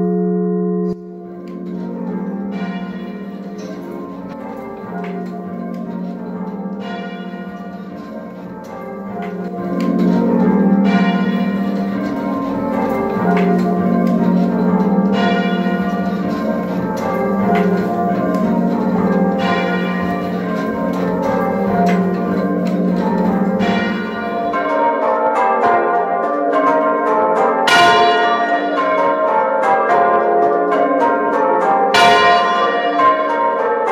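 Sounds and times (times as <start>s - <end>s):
muffled church bells ringing: 0.0s - 33.9s
open tenor bell ringing: 0.0s - 33.9s.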